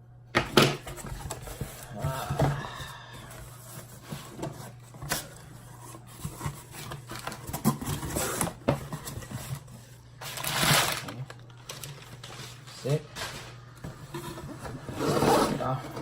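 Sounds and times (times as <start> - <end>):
cardboard box rustling: 0.8 - 16.0.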